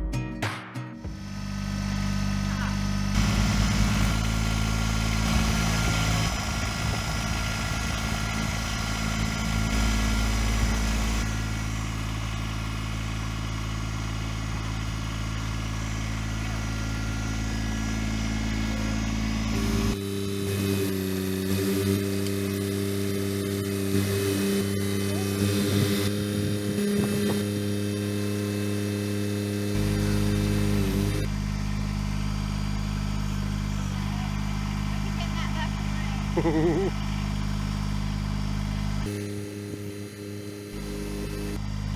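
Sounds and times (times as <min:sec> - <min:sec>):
tractor diesel engine running: 0:01.0 - 0:41.9.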